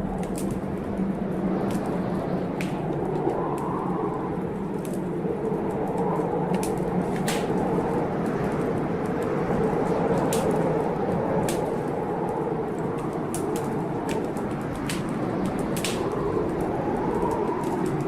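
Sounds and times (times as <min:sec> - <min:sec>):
blizzard wind blowing: 0:00.0 - 0:18.0
wood fire crackling: 0:00.0 - 0:18.0.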